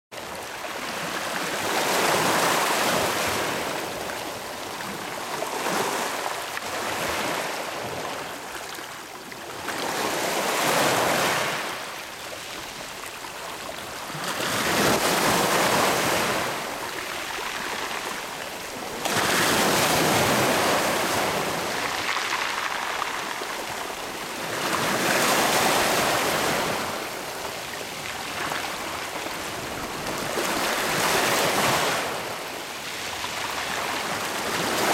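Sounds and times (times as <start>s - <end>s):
small waves washing over rocks: 0.6s - 34.9s.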